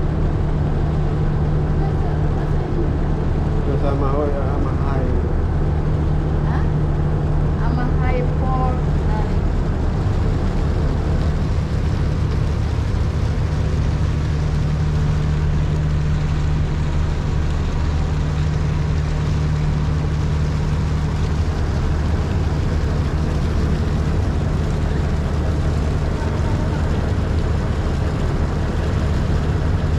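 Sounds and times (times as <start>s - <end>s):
ship engine humming: 0.0s - 29.9s.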